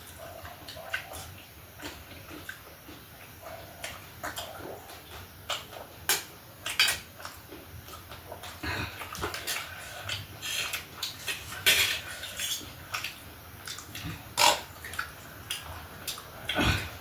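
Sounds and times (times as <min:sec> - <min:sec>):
mouth chewing and smacking: 0:00.0 - 0:17.0.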